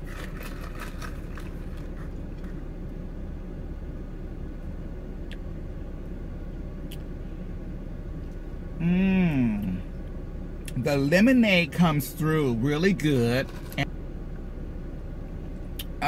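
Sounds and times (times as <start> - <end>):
car air conditioning hum: 0.0 - 16.0
car engine idling: 0.0 - 16.0.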